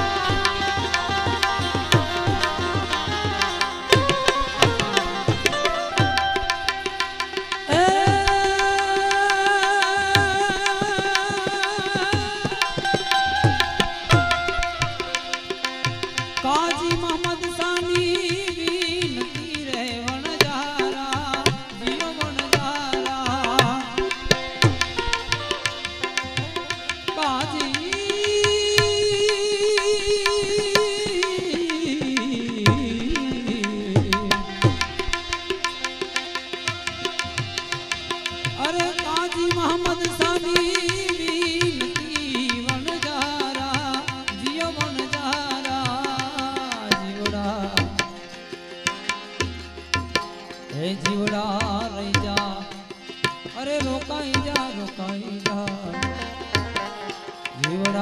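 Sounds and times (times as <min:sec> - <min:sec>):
hand drum beat: 0:00.0 - 0:48.2
devotional song wavering melody: 0:00.0 - 0:58.0.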